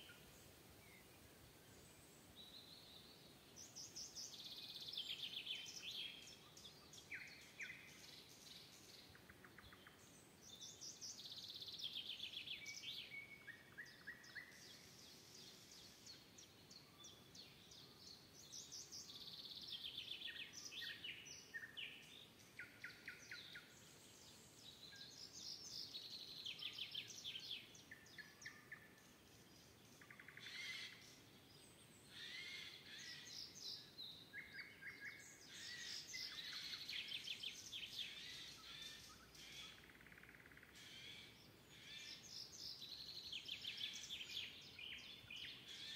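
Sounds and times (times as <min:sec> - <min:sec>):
songbirds trilling: 0:01.8 - 0:45.9.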